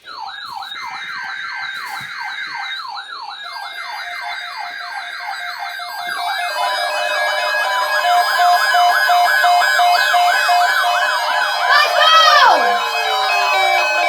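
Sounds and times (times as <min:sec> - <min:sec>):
electronic siren sweeping: 0:00.0 - 0:14.0.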